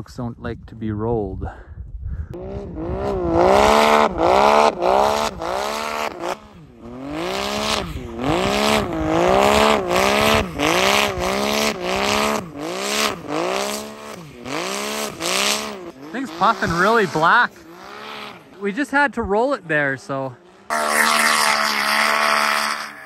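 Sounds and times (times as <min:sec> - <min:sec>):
snowmobile engine revving: 0:02.3 - 0:23.0.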